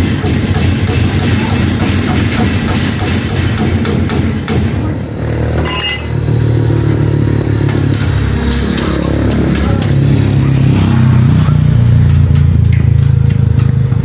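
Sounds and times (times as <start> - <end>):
engine running with low hum: 0.0 - 14.0.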